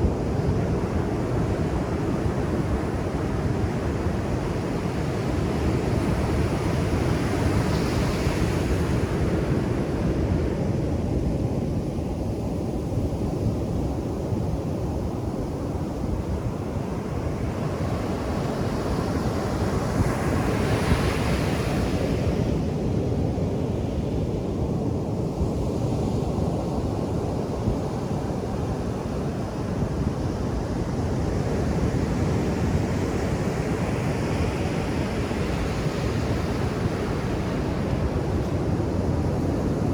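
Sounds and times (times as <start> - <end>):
ocean surf on beach: 0.0 - 11.2, 15.6 - 24.6, 25.4 - 39.9.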